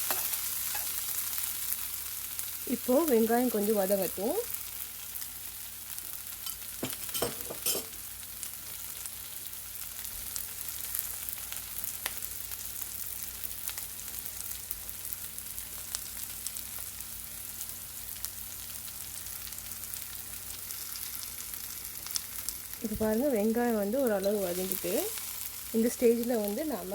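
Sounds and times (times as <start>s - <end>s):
onions sizzling in hot oil: 0.0s - 26.9s.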